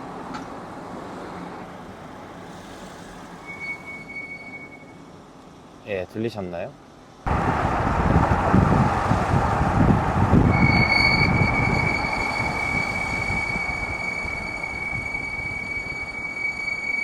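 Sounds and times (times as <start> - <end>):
road and wind noise: 0.0 - 17.0
brakes squealing: 1.1 - 5.8, 7.3 - 17.0.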